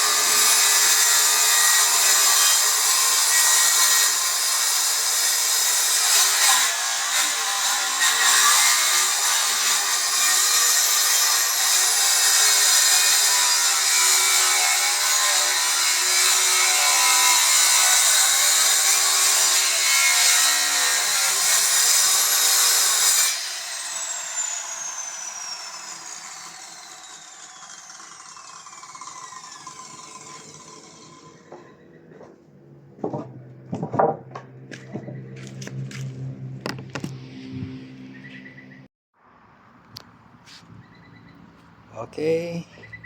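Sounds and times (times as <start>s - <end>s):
circular saw cutting wood: 0.0s - 38.4s.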